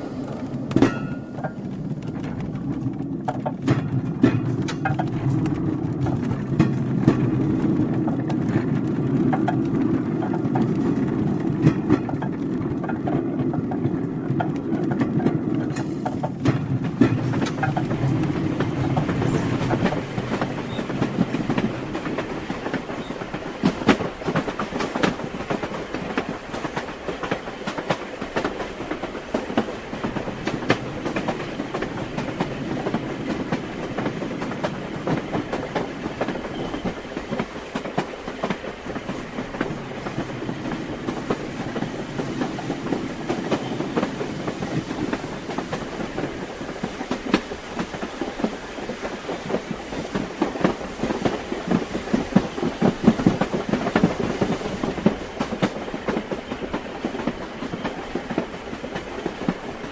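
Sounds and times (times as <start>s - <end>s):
low train rumble: 0.0s - 59.9s
train wheels clattering on rails: 0.0s - 59.9s.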